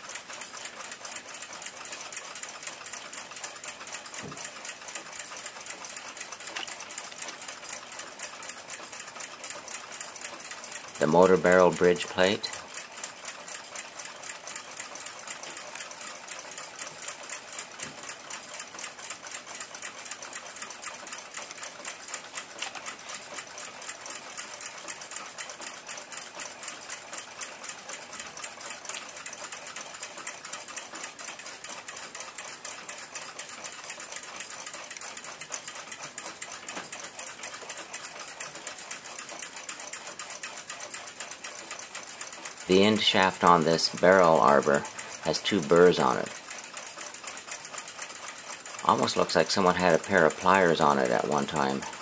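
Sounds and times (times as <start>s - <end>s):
clock ticking: 0.0s - 52.0s.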